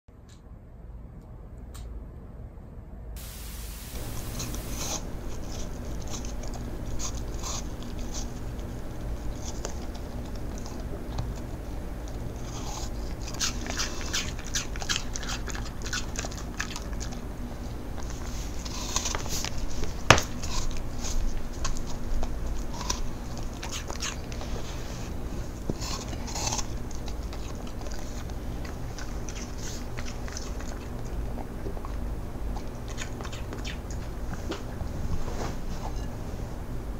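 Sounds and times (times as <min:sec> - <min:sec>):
dog crunching apple slices: 0:03.2 - 0:34.8.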